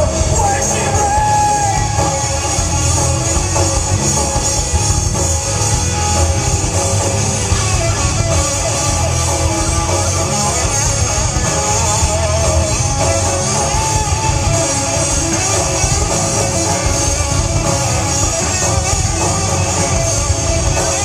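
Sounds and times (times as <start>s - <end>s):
bass guitar: 0.0s - 21.0s
drum kit: 0.0s - 21.0s
electric guitars: 0.0s - 21.0s.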